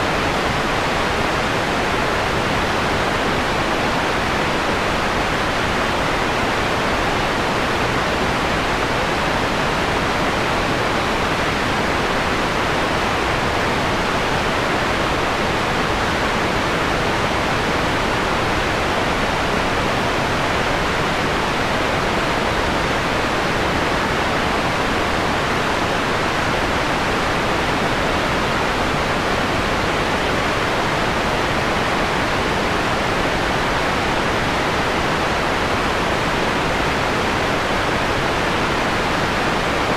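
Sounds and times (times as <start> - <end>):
filtered white noise hiss: 0.0 - 39.9.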